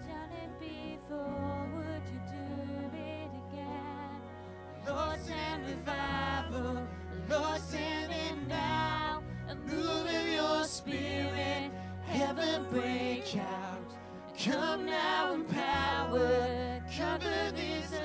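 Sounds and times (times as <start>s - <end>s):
bass guitar: 0.0s - 18.0s
vocalists singing: 0.0s - 18.0s.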